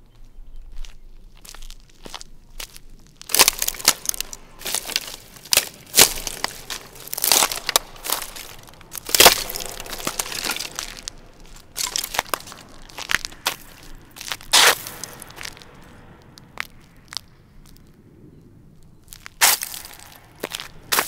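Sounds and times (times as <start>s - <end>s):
footsteps snapping dry sticks: 0.8s - 17.9s, 19.1s - 21.0s.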